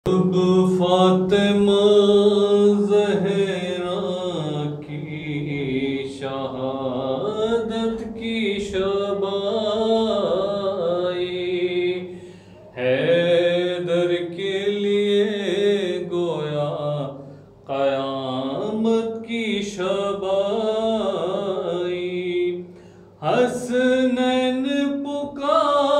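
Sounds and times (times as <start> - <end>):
person chanting: 0.0 - 25.9.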